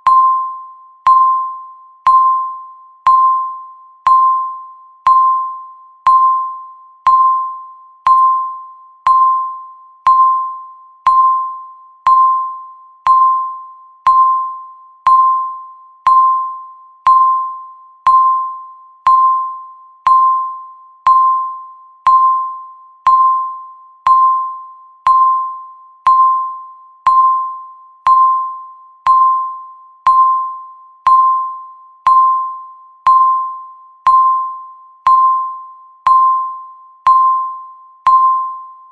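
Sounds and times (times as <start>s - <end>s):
timer ping with sharp click: 0.0s - 38.9s.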